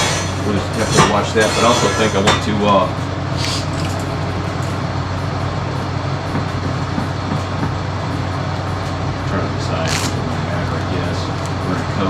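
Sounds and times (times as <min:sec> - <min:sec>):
machine humming: 0:00.0 - 0:12.0
rushing noise: 0:00.0 - 0:12.0.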